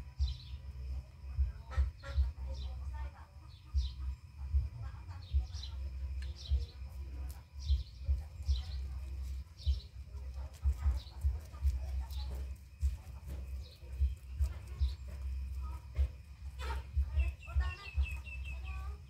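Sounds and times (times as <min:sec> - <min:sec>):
low thumps and rumble: 0:00.0 - 0:19.0
rabbits chewing greens: 0:00.0 - 0:19.0
small birds chirping: 0:00.1 - 0:19.0.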